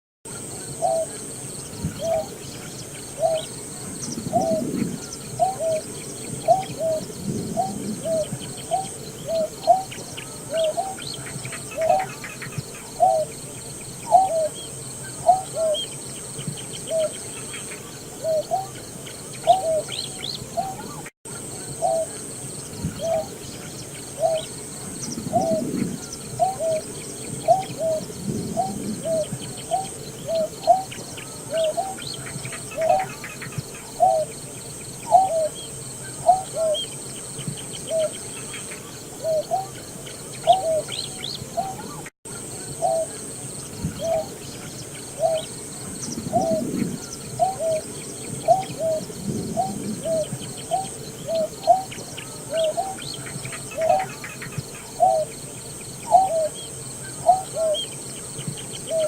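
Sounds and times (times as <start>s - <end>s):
bird hooting calls: 0.5s - 34.4s, 35.0s - 55.4s, 56.0s - 58.0s, 58.7s - 59.0s.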